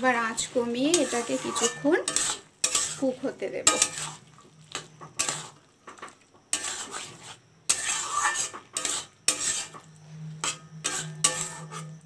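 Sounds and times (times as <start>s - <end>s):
metal spatula scraping a pan: 0.1s - 5.7s, 6.5s - 12.0s.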